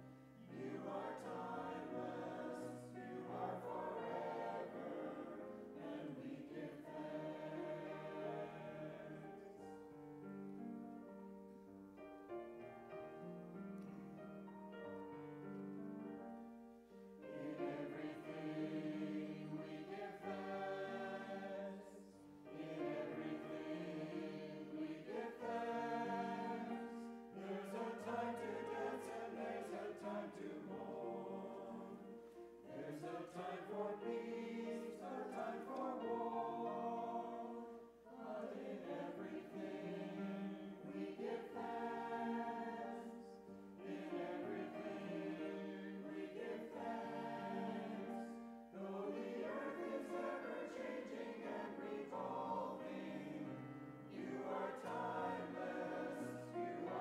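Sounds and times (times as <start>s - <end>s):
choir singing: 0.0s - 57.0s
piano accompaniment: 0.0s - 57.0s.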